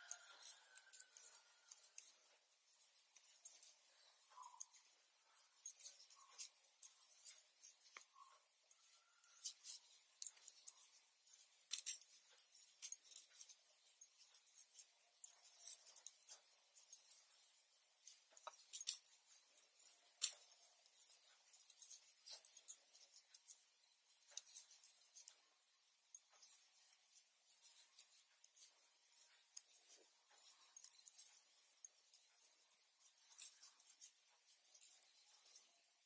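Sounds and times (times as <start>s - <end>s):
bangles clinking: 0.0s - 36.0s
knitting needles clicking: 0.0s - 36.0s.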